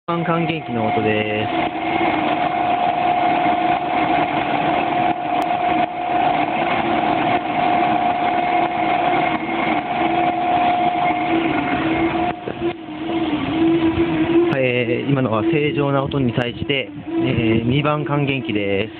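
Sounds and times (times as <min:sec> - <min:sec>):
low wavering tone: 0:00.1 - 0:18.9
machine high whine: 0:00.1 - 0:18.9
machine mechanical hum: 0:00.1 - 0:18.9.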